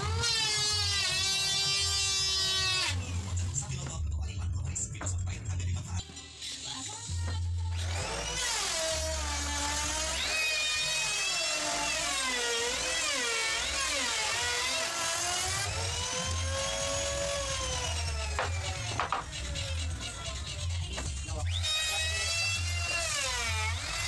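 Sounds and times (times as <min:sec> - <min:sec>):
wood router cutting wood: 0:00.0 - 0:03.3, 0:07.8 - 0:24.0.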